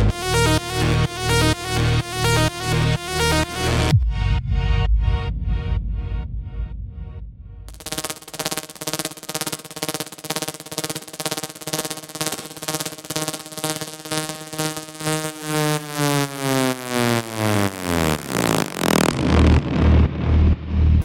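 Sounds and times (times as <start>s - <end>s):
buzzy synthesizer pulsing: 0.0s - 21.0s.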